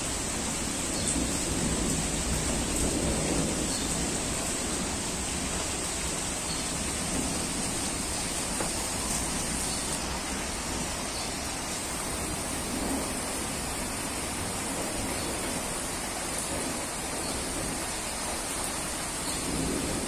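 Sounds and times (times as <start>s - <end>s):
rain on wet paving: 0.0s - 20.0s.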